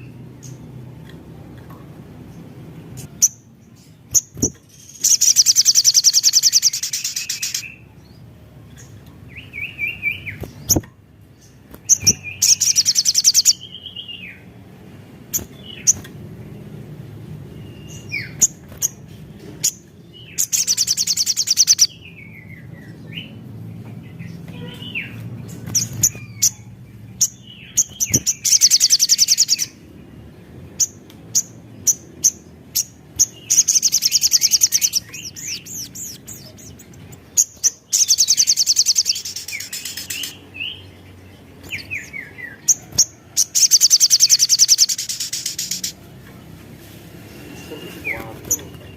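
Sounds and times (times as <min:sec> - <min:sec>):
sunbird singing: 0:02.2 - 0:46.1, 0:47.2 - 0:48.9.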